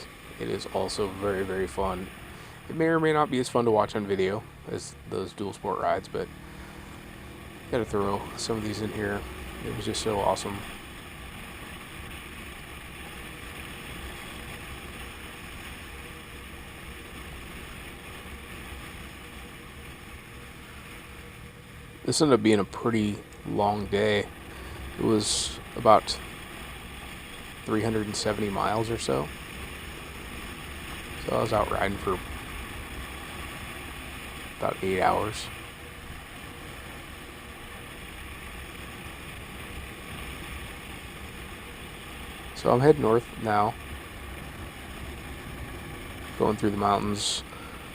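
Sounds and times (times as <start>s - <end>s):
motorcycle engine drone: 0.0s - 47.9s.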